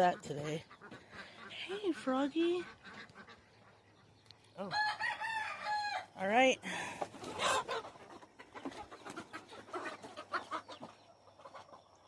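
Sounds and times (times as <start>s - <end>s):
chickens clucking: 0.0s - 4.7s, 6.7s - 12.0s.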